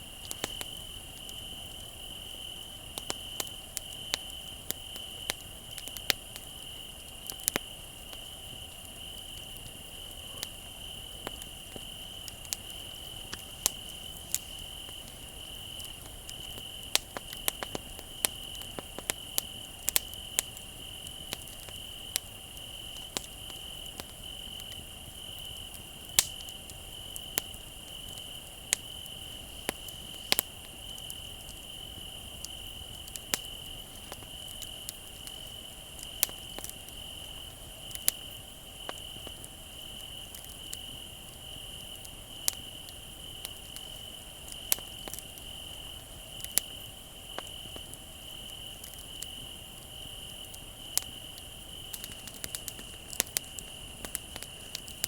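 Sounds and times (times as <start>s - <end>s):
campfire crackling and snapping: 0.0s - 55.0s
crickets chirring: 0.0s - 55.0s.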